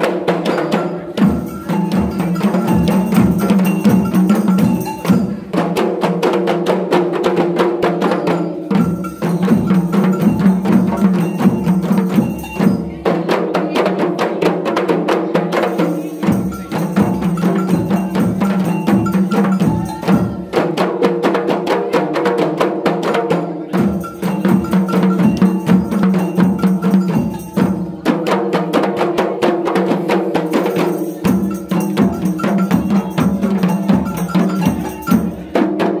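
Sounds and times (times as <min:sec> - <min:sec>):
hand-struck frame drums: 0:00.0 - 0:36.0.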